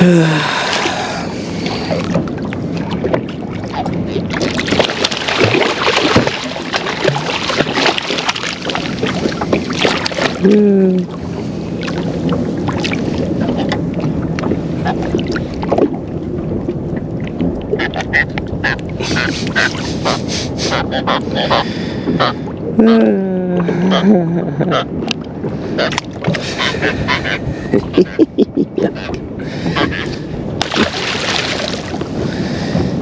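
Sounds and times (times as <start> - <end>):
water washing against boat hull: 0.0 - 33.0
wind buffeting microphone: 0.0 - 33.0.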